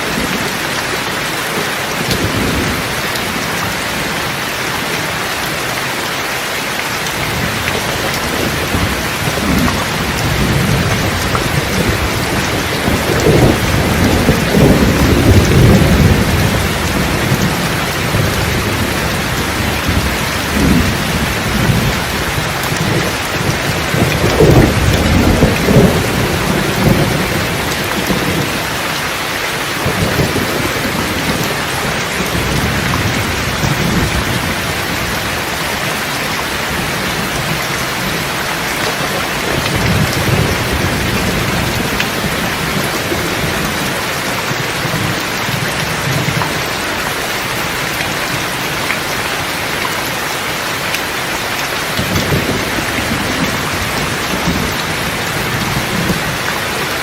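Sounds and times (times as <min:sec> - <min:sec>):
heavy rain: 0:00.0 - 0:57.0
rolling thunder: 0:07.2 - 0:29.0, 0:29.6 - 0:49.5, 0:51.9 - 0:56.8.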